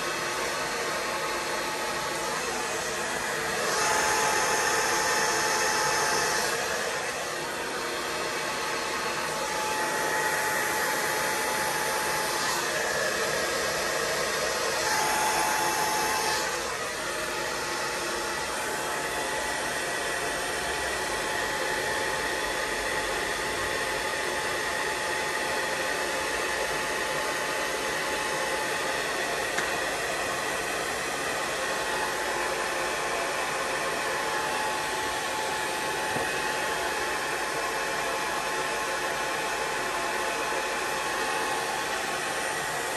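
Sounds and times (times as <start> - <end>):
hot-air blower hissing: 0.0 - 42.9.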